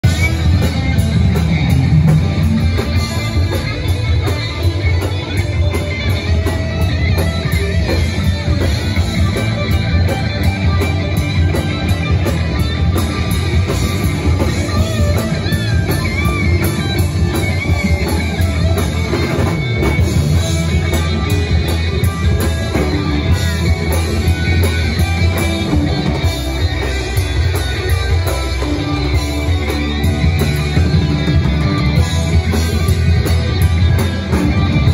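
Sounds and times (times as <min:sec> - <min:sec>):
drum kit: 0:00.0 - 0:34.9
electric guitars: 0:00.0 - 0:34.9.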